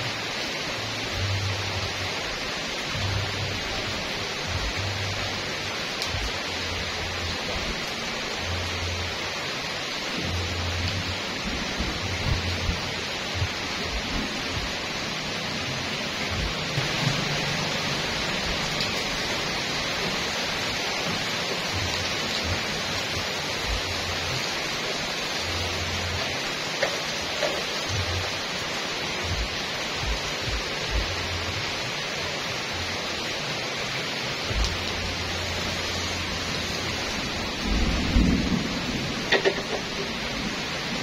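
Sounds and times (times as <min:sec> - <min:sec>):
rain on pavement and leaves: 0:00.0 - 0:41.0.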